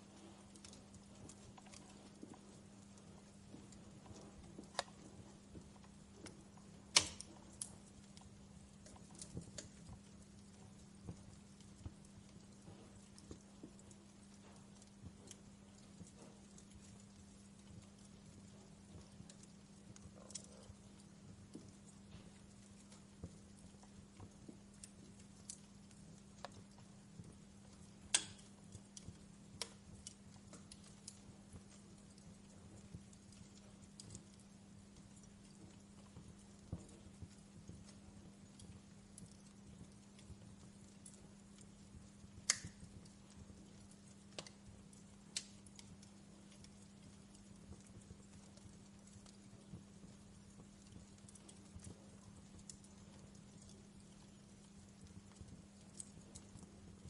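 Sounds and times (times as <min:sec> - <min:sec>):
faint steady hum: 0:00.0 - 0:57.0
wood fire crackling: 0:00.0 - 0:57.0.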